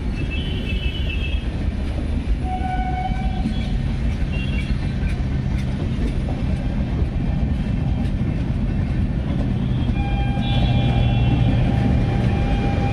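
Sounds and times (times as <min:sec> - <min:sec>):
train wheels rumbling on track: 0:00.0 - 0:12.9.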